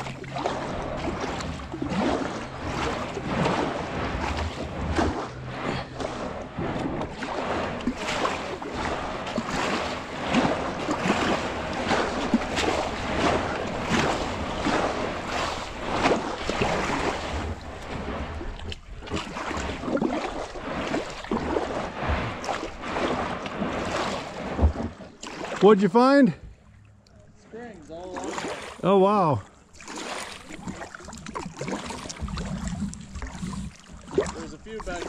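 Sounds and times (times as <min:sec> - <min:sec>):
paddle splashing through water: 0:00.0 - 0:26.7, 0:27.8 - 0:35.0.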